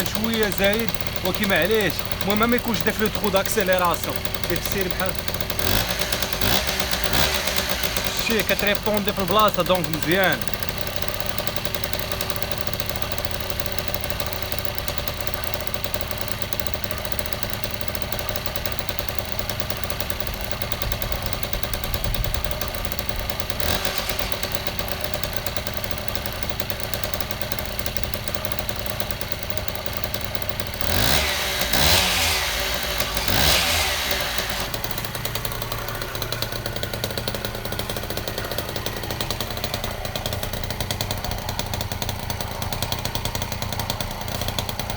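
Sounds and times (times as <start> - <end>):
moped engine idling and revving: 0.0 - 44.9.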